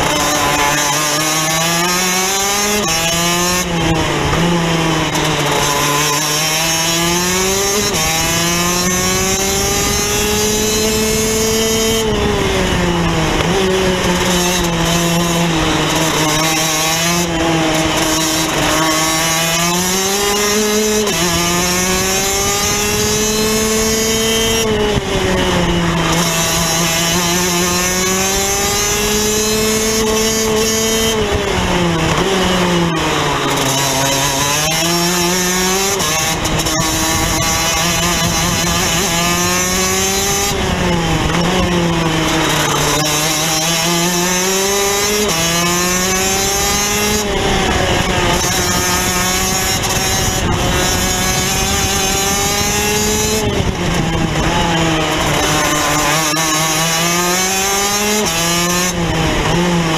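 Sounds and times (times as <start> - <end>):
kart two-stroke engine racing: 0.0 - 59.9.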